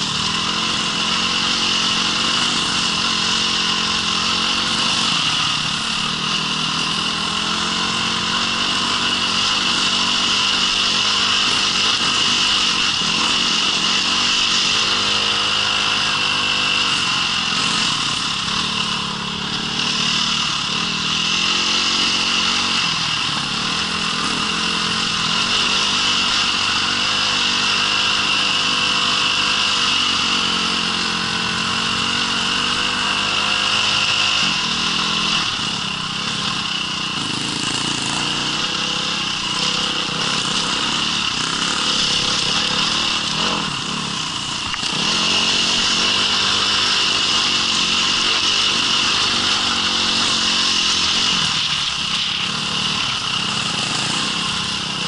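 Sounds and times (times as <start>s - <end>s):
small engine revving under load: 0.0s - 55.0s.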